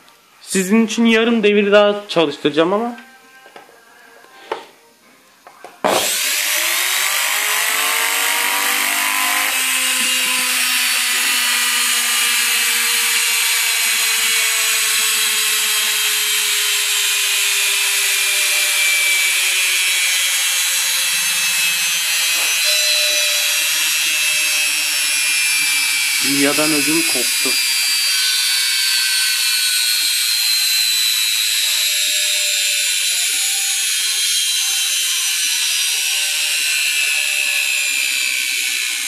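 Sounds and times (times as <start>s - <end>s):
washing machine motor whining: 5.9s - 39.0s.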